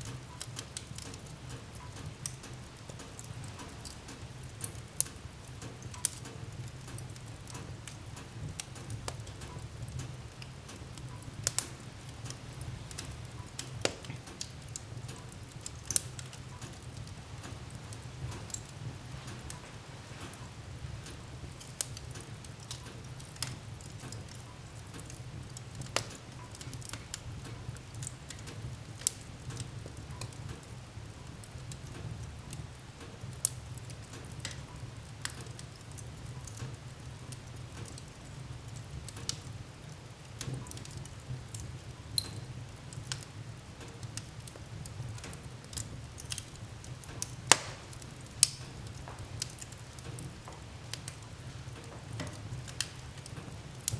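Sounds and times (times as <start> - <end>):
fire crackling and popping: 0.0 - 53.9
low fire rumble: 0.0 - 53.9.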